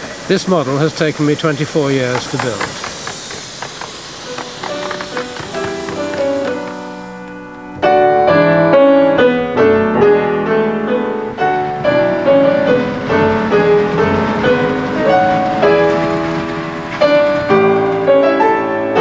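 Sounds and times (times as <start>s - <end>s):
piano music: 1.3s - 19.0s.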